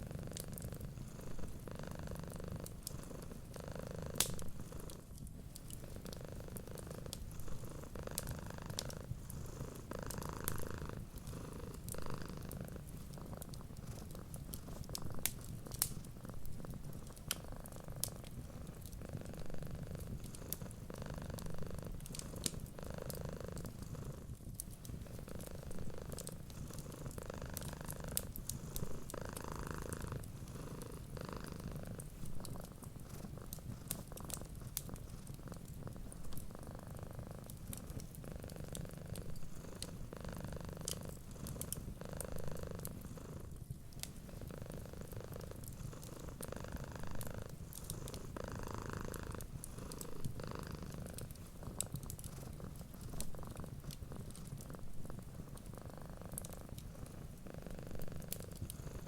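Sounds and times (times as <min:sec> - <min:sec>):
cat purring: 0:00.0 - 0:59.0
wood fire crackling: 0:00.0 - 0:59.0.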